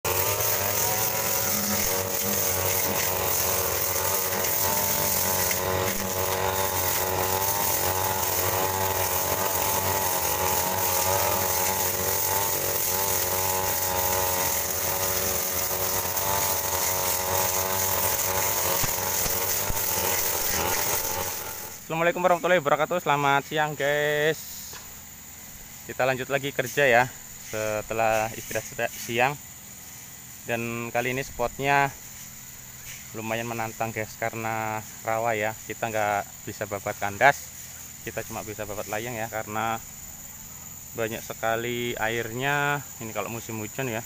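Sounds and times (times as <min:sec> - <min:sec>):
brush cutter engine running: 0:00.0 - 0:44.0.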